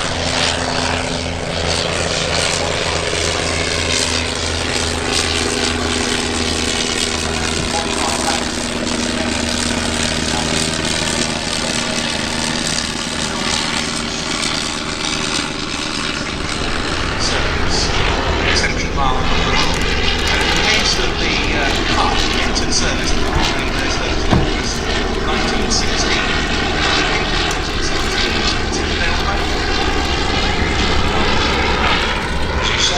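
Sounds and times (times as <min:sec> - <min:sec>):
propeller plane flying past: 0:00.0 - 0:32.9.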